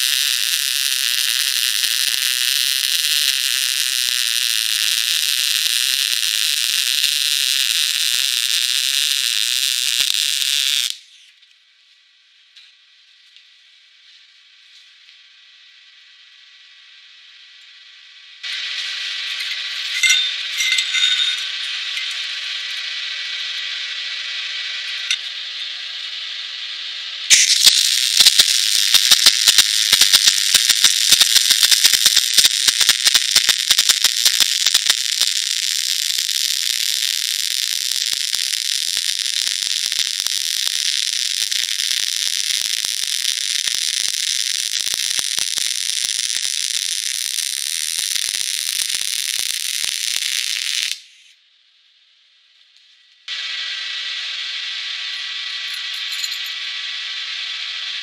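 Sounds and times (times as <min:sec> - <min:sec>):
welding arc crackling: 0:00.0 - 0:11.4, 0:13.2 - 0:51.3, 0:52.8 - 0:58.0
steady hiss: 0:00.0 - 0:58.0.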